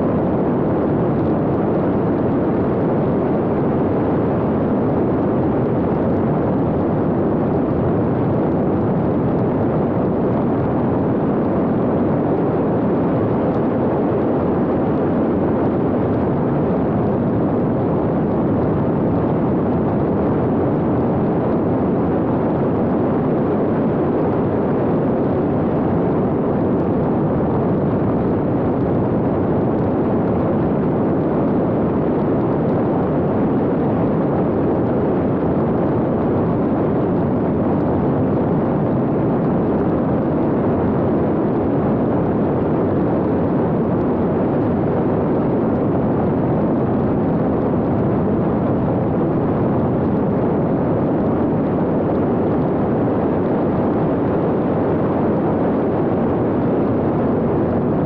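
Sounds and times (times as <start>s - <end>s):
wind over drone airframe: 0.0s - 58.0s.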